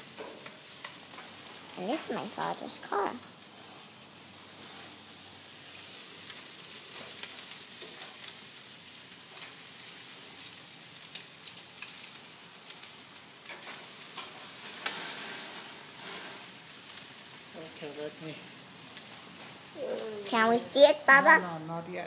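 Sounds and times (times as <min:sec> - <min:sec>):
chicken sizzling on grill: 0:00.0 - 0:22.0
crackles and pops: 0:00.0 - 0:22.0.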